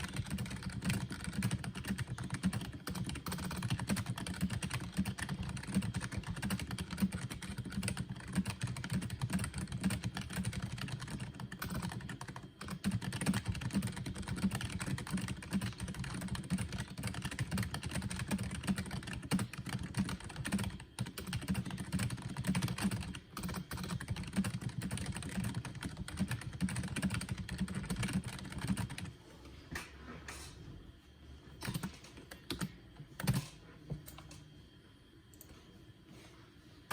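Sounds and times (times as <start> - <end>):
fast typing on keyboard: 0.0 - 29.1, 31.6 - 33.5.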